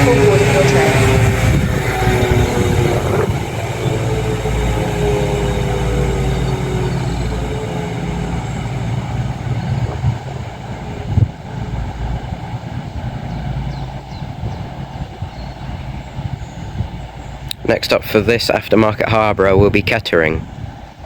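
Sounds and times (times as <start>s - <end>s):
falling whine: 0.0s - 18.3s
diesel train engines droning: 0.0s - 21.0s.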